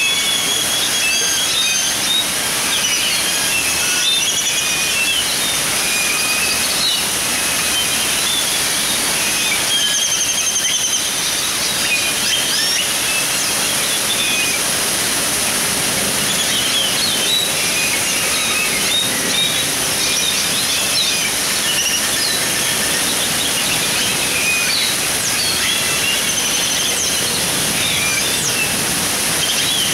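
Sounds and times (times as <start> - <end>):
waterfall splashing into a pond: 0.0 - 29.9.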